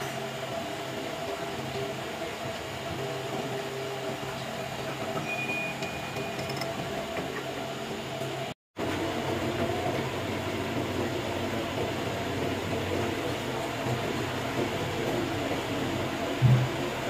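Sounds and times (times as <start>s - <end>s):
workshop machinery humming: 0.0s - 17.0s.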